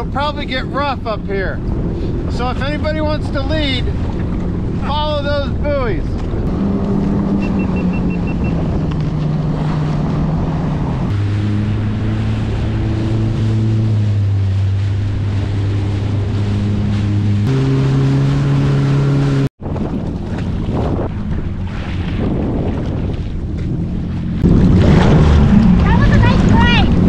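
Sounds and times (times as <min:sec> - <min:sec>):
wind buffeting microphone: 0:00.0 - 0:17.8, 0:19.6 - 0:27.0
jet ski engine running: 0:00.0 - 0:27.0
water rushing past hull: 0:00.0 - 0:27.0.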